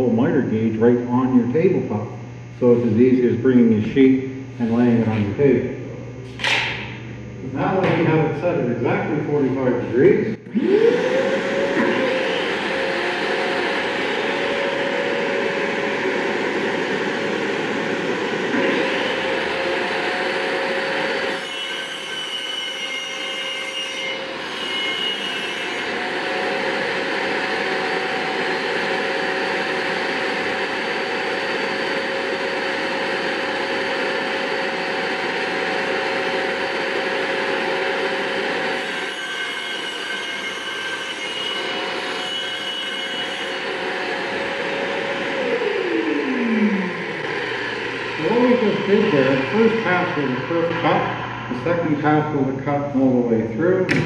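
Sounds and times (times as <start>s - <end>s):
circular saw whining: 0.0s - 53.8s.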